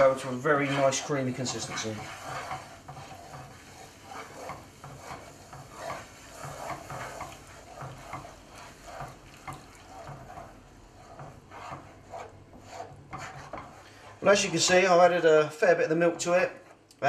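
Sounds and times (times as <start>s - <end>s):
wooden spoon scraping a pan: 0.0s - 16.8s.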